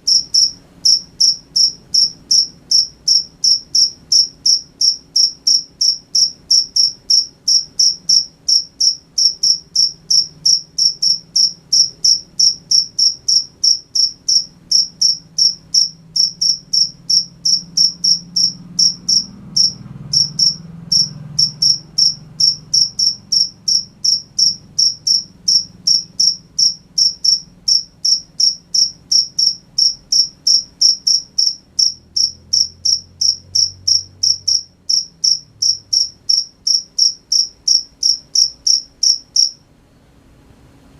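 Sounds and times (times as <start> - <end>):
cricket chirping: 0.0 - 39.6.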